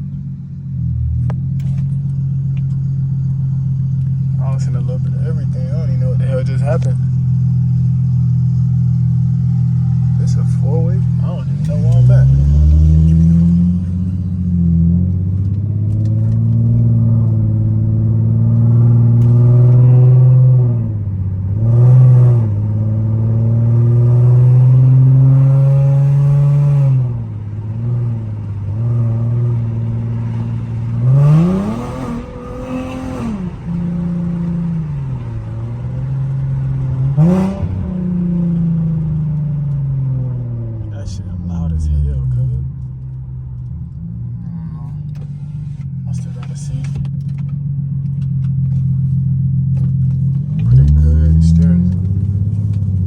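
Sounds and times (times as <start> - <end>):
car engine revving with loud exhaust: 0.0 - 53.0.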